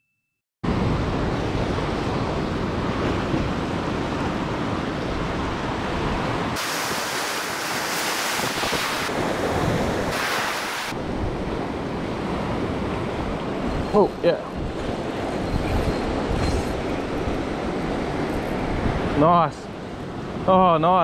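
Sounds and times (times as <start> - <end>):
wind rumbling on microphone: 0.7 - 20.5
surf washing around rocks: 0.7 - 21.0.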